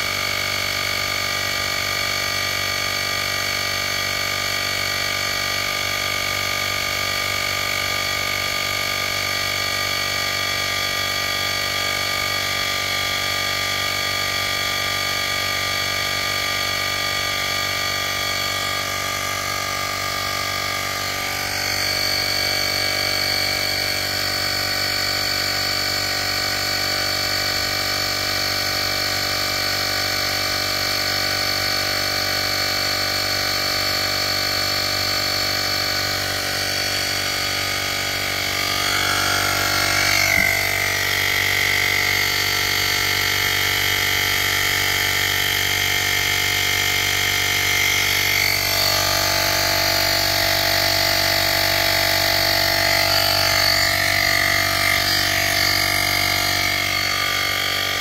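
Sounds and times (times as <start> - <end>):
air compressor droning: 0.0 - 58.0.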